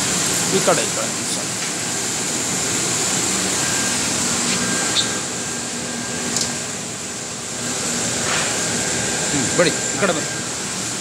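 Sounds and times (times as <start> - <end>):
workshop fans hissing and humming: 0.0 - 11.0.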